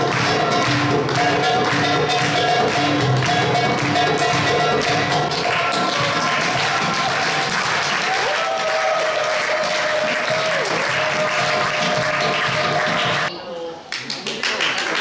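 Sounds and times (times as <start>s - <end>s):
audience applauding: 0.0s - 13.3s, 13.9s - 15.0s.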